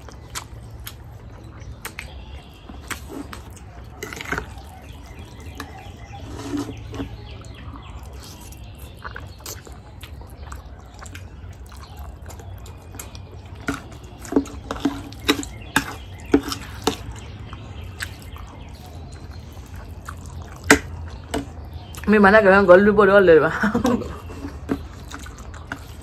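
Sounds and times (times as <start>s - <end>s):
noodle slurping and chewing: 0.0s - 22.0s, 23.9s - 26.0s.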